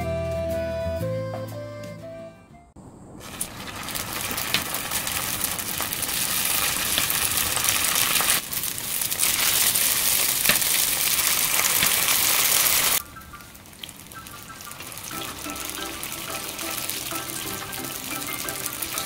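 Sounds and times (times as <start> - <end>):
food sizzling in hot oil: 3.2 - 19.0.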